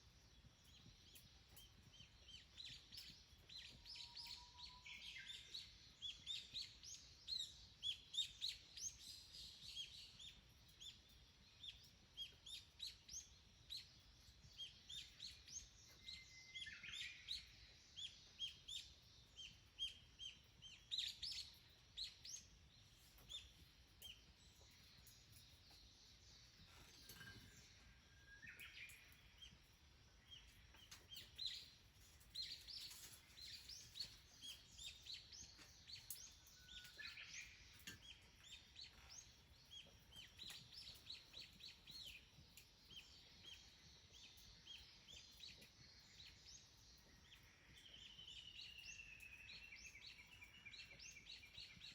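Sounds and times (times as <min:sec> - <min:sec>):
small birds chirping faintly: 0:00.0 - 0:51.9.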